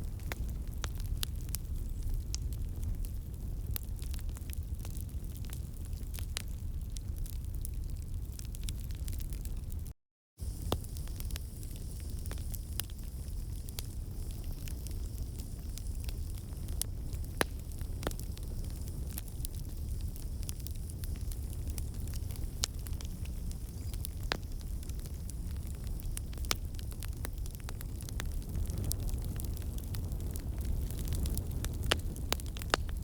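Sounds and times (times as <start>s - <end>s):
fire popping and snapping: 0.0s - 33.0s
fireplace fire crackling: 0.0s - 33.0s.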